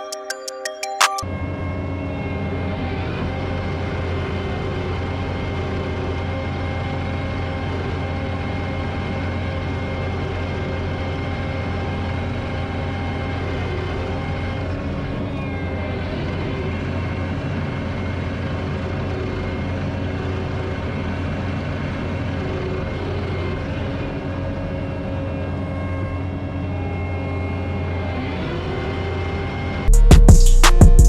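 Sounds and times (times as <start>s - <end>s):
diesel engine running: 1.6s - 31.0s.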